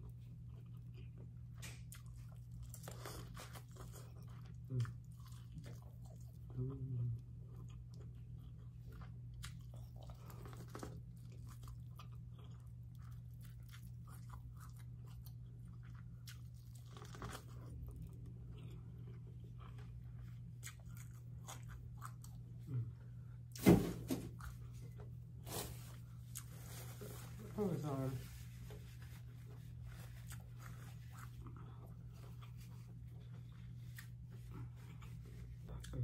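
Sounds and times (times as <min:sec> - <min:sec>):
chewing corn on the cob: 0:00.0 - 0:23.0, 0:29.4 - 0:36.0.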